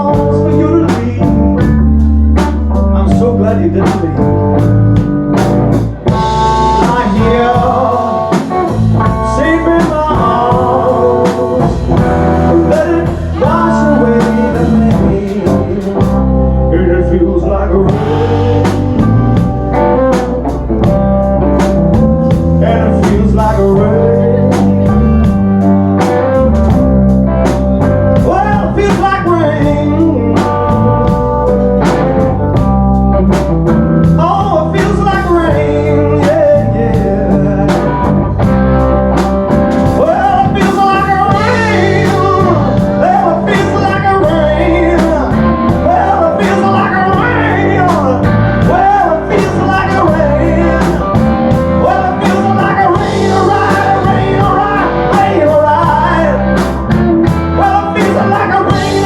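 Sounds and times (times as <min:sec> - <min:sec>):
bending lead melody: 0:00.0 - 0:59.0
blues-rock band playing: 0:00.0 - 0:59.0
drums: 0:00.0 - 0:59.0.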